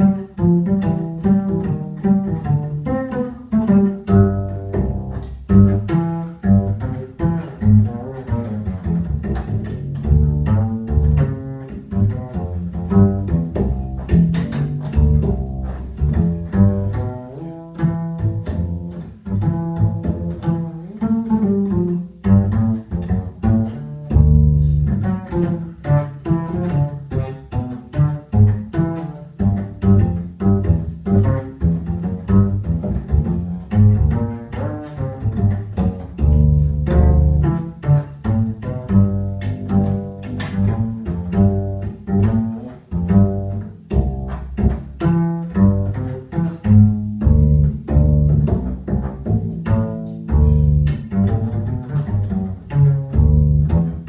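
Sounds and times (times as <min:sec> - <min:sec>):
double bass plucked solo: 0:00.0 - 0:54.0.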